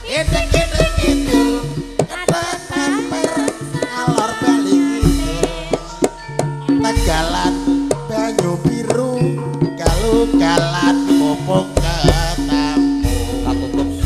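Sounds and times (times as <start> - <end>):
person singing: 0.0 - 14.0
hand drum strokes: 0.3 - 14.0
metallophone tones: 0.5 - 14.0.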